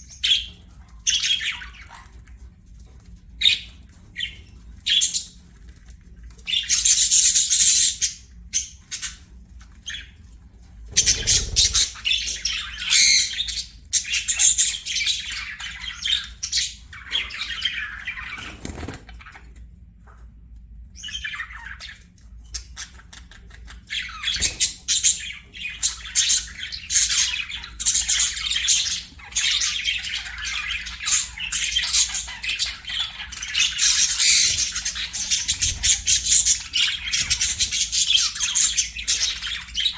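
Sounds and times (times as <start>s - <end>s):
budgerigars chattering and chirping: 0.0s - 2.5s, 3.4s - 10.2s, 10.9s - 19.6s, 21.0s - 39.9s.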